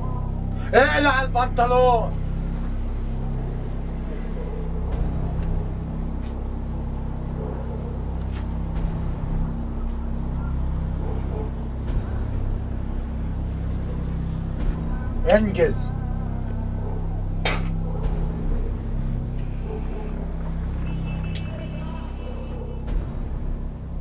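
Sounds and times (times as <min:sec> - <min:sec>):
low rumbling drone: 0:00.0 - 0:24.0.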